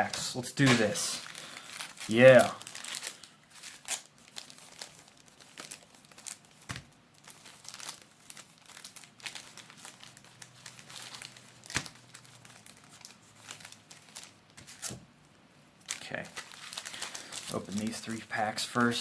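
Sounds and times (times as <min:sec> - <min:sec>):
foil wrappers crinkling: 0:00.0 - 0:15.0, 0:15.8 - 0:19.0.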